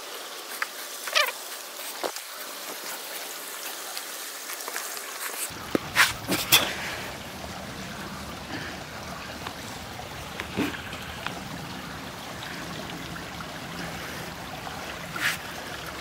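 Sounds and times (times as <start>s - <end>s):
stream running and trickling: 0.0s - 16.0s.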